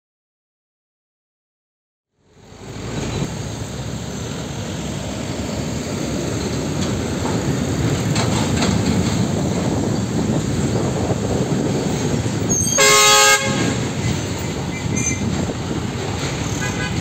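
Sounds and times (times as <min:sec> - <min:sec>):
diesel trucks driving past: 0:02.2 - 0:17.0.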